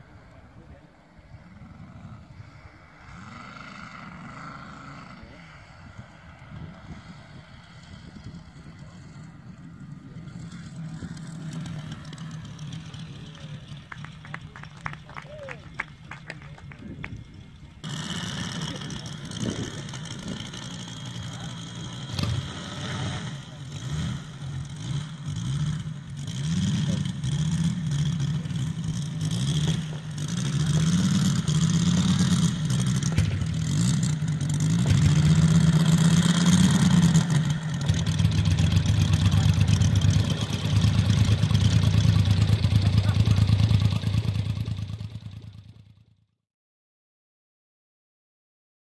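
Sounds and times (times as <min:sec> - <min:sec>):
model aircraft radial engine running: 0:00.0 - 0:45.9.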